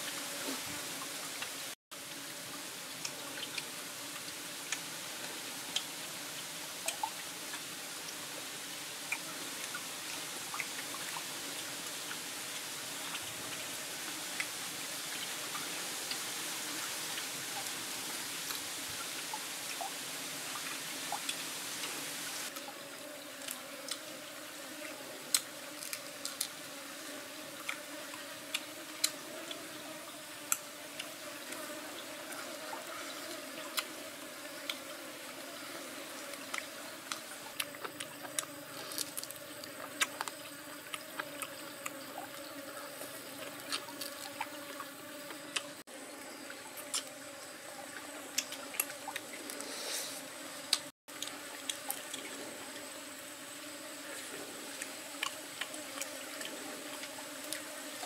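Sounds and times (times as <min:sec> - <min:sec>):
stream trickling over rocks: 0:00.0 - 0:24.0, 0:27.2 - 0:49.7.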